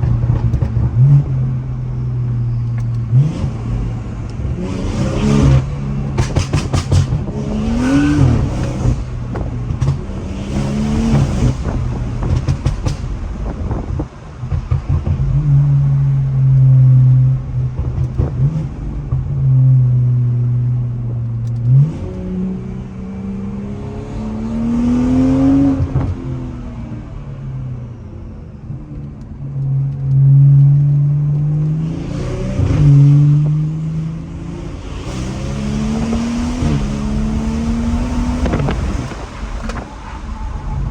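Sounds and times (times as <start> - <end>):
car engine revving: 0.0 - 40.9
exhaust crackles: 0.0 - 40.9.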